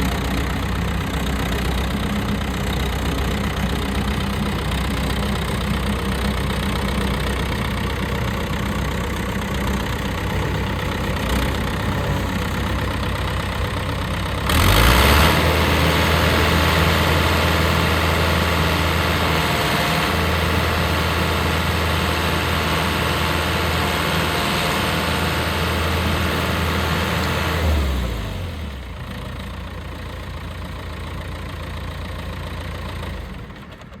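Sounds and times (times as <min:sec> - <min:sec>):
diesel tractor engine revving: 0:00.0 - 0:34.0.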